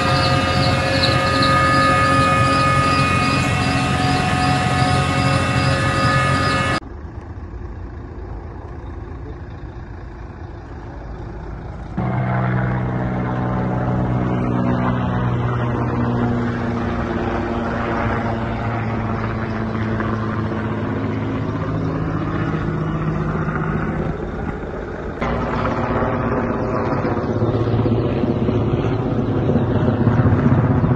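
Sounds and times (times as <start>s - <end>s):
diesel engine rumbling: 0.0s - 30.9s.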